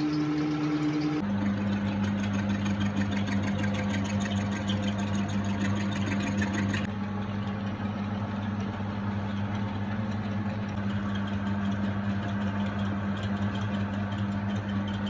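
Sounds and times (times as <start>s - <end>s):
workshop machine humming and hissing: 0.0s - 15.0s.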